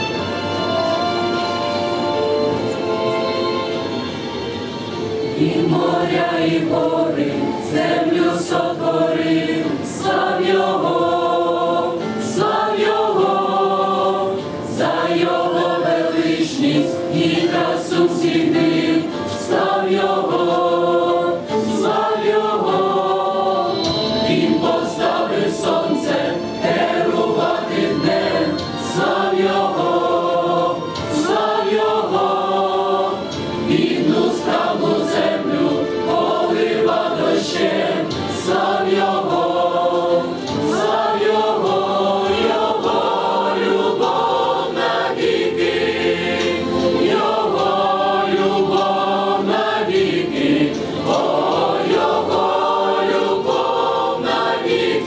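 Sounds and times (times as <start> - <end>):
choir singing a hymn: 4.9 - 55.0.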